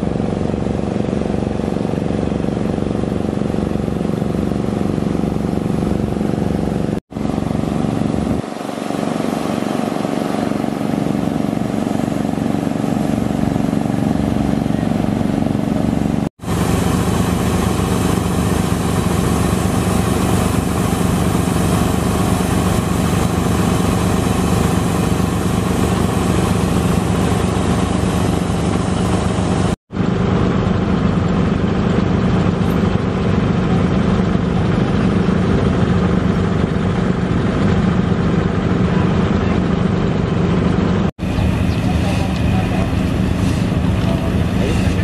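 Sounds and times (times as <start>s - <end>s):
petrol engines driving air compressor: 0.0s - 45.0s.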